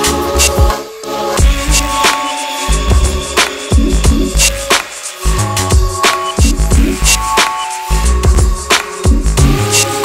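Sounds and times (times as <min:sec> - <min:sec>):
sharp percussion: 0:00.0 - 0:10.0.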